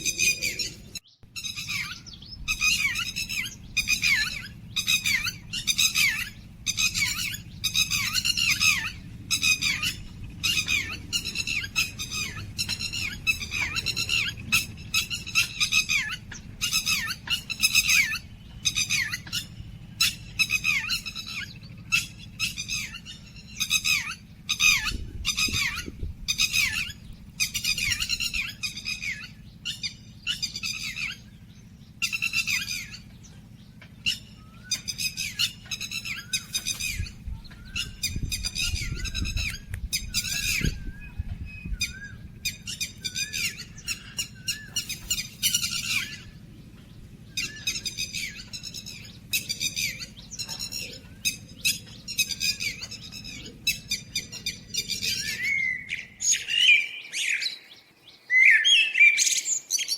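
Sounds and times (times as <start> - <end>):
low steady hum: 0.0 - 58.2
songbirds chattering calls: 0.0 - 59.9.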